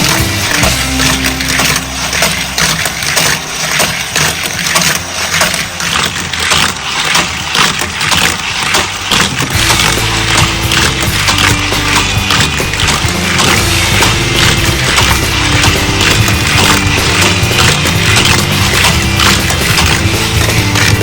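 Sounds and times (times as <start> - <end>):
toy cars clattering on plastic track: 0.0 - 21.0.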